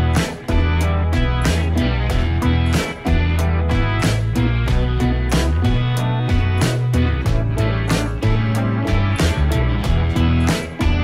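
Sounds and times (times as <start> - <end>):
song with guitar and bass: 0.0 - 11.0.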